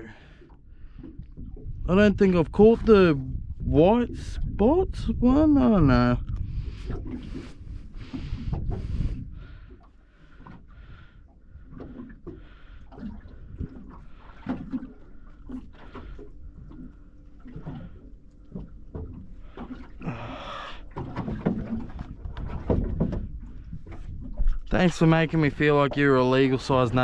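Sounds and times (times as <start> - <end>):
knocks and thumps on boat: 0.3 - 27.0.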